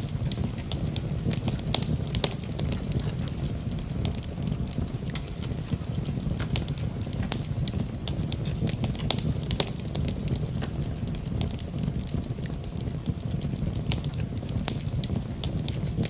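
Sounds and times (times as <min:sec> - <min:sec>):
low rumble of flames: 0:00.0 - 0:16.0
wood fire crackling: 0:00.0 - 0:16.0.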